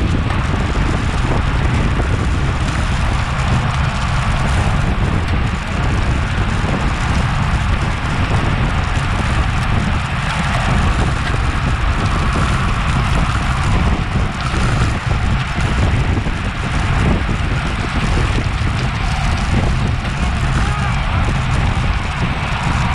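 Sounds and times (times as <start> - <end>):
bike tyres rumbling on road: 0.0 - 22.9
wind rushing over microphone: 0.0 - 22.9.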